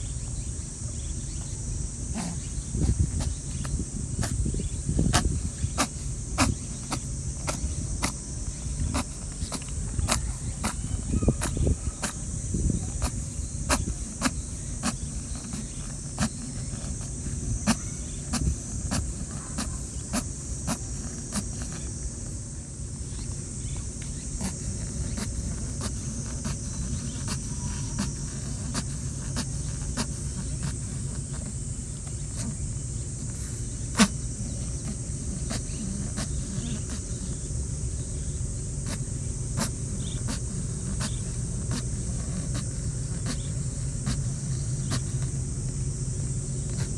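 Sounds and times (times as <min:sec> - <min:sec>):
high insect chirring: 0:00.0 - 0:46.9
rabbit sneezing: 0:01.9 - 0:46.9.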